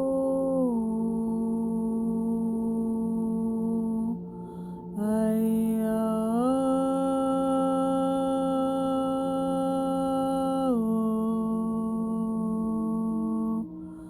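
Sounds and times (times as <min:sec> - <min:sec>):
constant low drone: 0:00.0 - 0:14.0.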